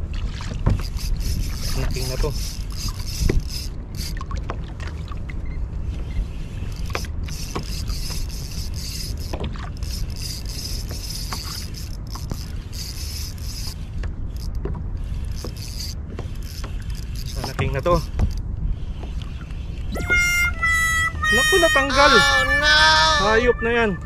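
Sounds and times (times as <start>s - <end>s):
water noise: 0.0s - 24.0s
wind rumbling on microphone: 0.0s - 24.0s
high mechanical whirring: 0.8s - 4.2s, 6.0s - 23.3s.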